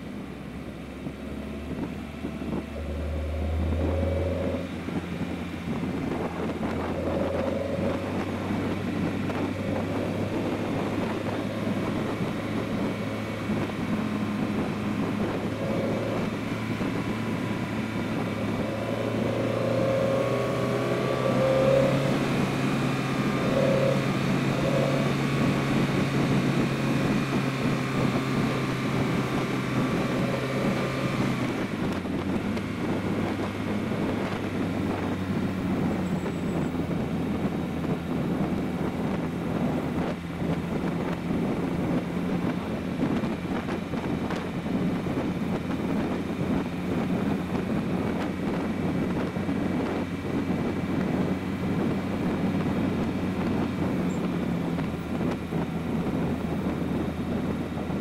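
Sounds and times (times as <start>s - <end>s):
car engine pulling at road speed: 0.0s - 58.0s
tyre and wind noise: 0.0s - 58.0s.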